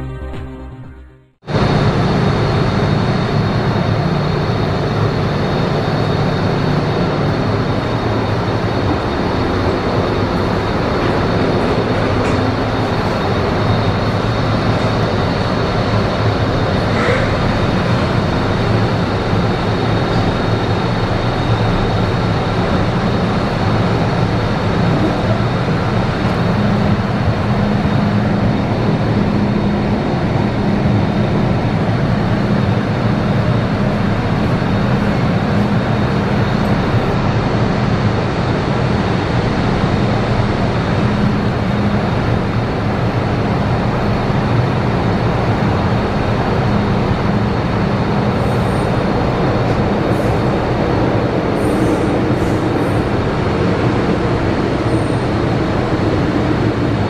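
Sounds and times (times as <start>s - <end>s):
train equipment hum: 0.0s - 57.0s.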